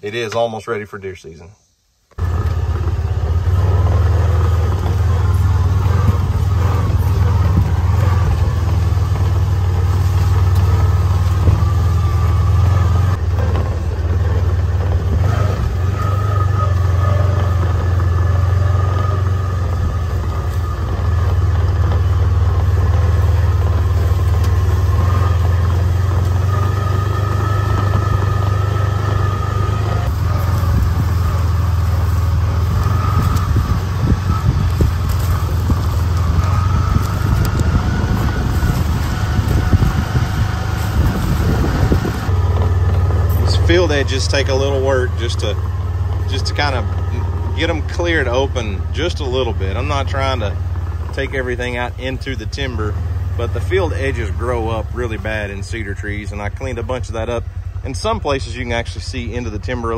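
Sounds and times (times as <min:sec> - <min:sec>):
vehicle engine droning: 0:02.1 - 0:59.9.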